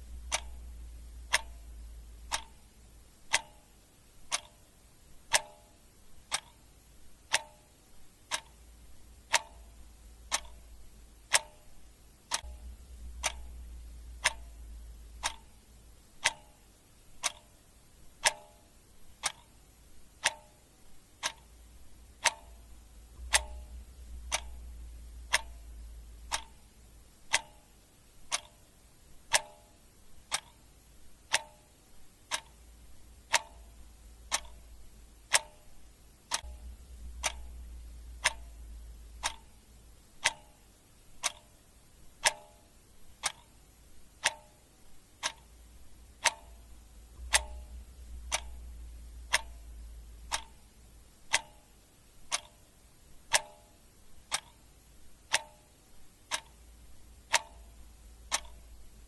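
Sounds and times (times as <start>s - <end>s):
clock ticking: 0.0s - 59.0s
faint low rumble: 0.0s - 59.0s.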